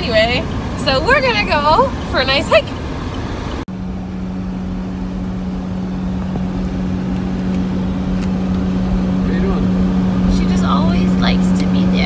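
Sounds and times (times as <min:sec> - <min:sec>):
vehicle interior hum and rumble: 0:00.0 - 0:12.0.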